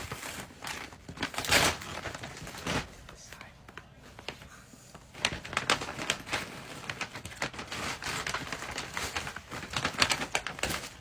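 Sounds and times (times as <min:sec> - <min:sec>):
packaging crinkling: 0:00.0 - 0:03.1, 0:04.2 - 0:11.0.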